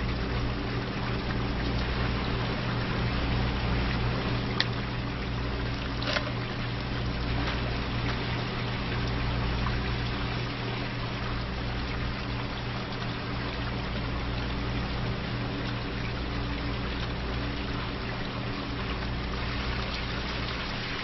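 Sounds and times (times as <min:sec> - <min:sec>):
low steady hum: 0:00.0 - 0:21.0
rushing water noise: 0:00.0 - 0:21.0.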